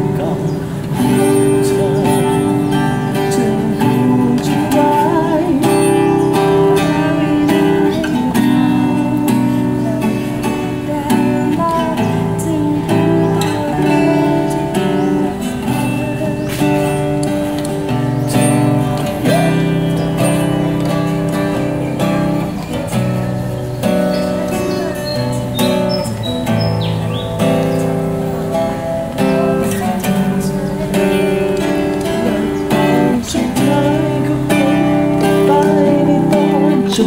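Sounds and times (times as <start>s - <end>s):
acoustic guitar strummed chords: 0.0s - 37.0s
voices singing a melody: 0.0s - 37.0s.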